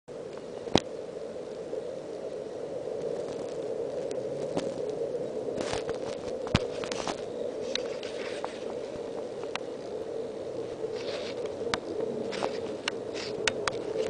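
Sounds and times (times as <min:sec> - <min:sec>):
outdoor background hiss: 0:00.1 - 0:14.0.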